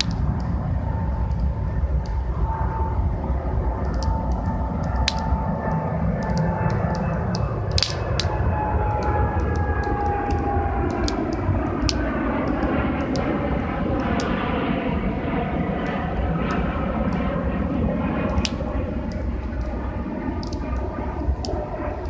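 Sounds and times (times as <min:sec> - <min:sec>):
campfire crackling: 0:00.0 - 0:22.0
jet airliner passing overhead: 0:00.0 - 0:22.0.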